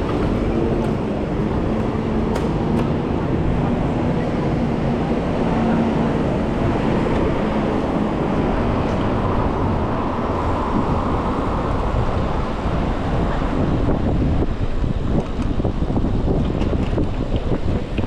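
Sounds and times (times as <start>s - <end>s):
city road traffic: 0.0s - 18.0s.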